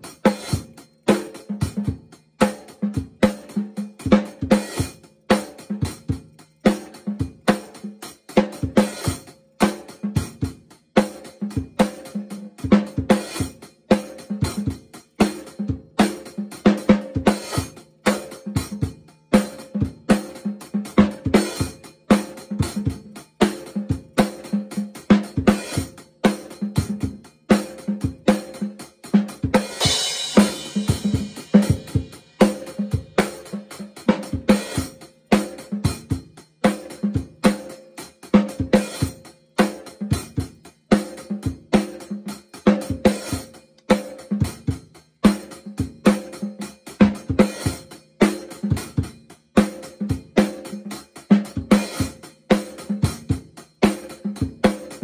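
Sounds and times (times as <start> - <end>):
drum kit rock beat: 0.0 - 55.0.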